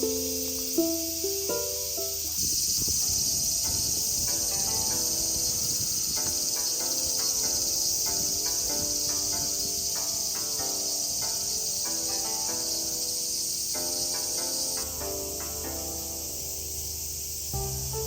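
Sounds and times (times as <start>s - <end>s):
high-pitched insect chorus: 0.0s - 18.0s
soft melodic music: 0.0s - 18.0s.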